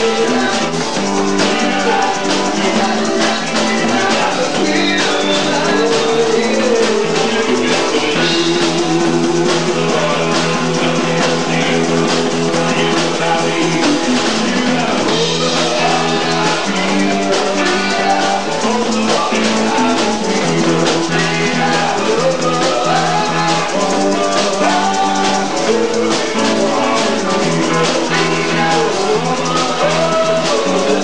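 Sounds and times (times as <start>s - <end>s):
drum kit: 0.0s - 31.0s
electric guitar: 0.0s - 31.0s
man singing: 0.0s - 31.0s.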